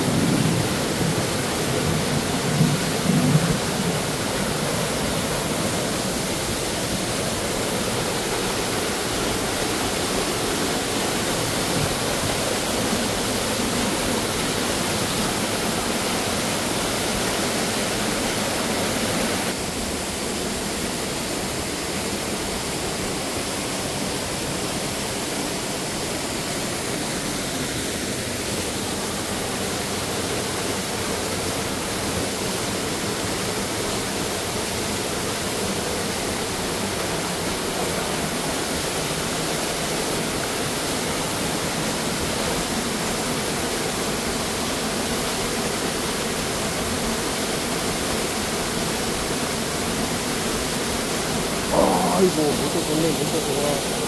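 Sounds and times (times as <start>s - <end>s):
stream running over rocks: 0.0s - 54.0s
waterfall splashing into pool: 0.0s - 54.0s.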